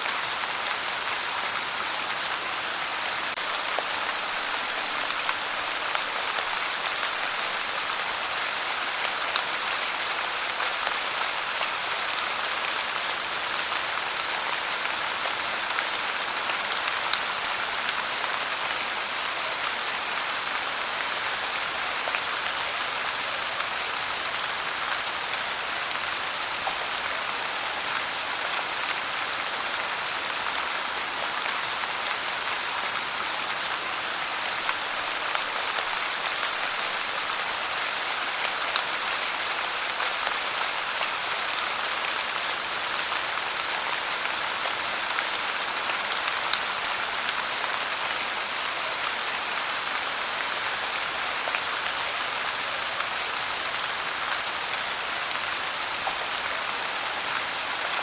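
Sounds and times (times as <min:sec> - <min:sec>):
pouring rain: 0:00.0 - 0:58.0.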